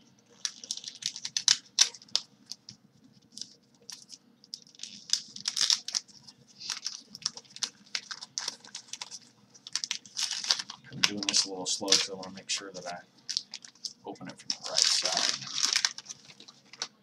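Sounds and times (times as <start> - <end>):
wrapping paper tearing and crumpling: 0.3 - 2.6, 3.2 - 17.0.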